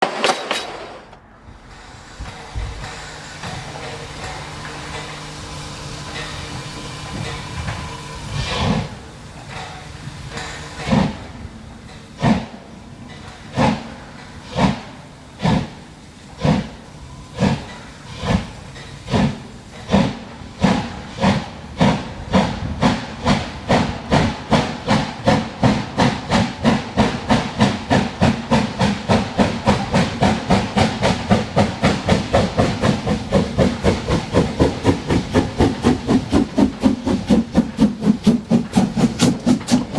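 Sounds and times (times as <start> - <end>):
steam locomotive chuffing: 0.0 - 39.9
steam hissing: 1.0 - 39.9.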